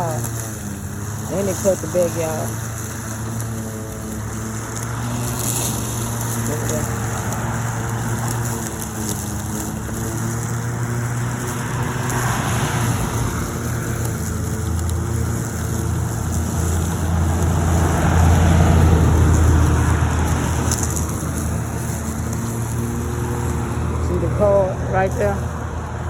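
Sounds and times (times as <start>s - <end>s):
electric lawnmower cutting grass: 0.0s - 26.0s.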